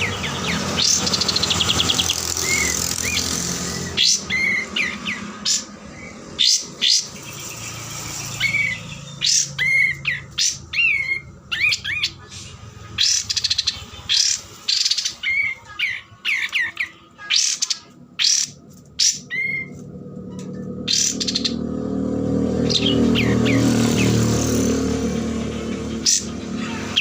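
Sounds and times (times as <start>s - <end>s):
bird squawking and whistling: 0.0s - 19.8s, 20.6s - 21.7s, 22.6s - 24.8s, 25.5s - 27.0s.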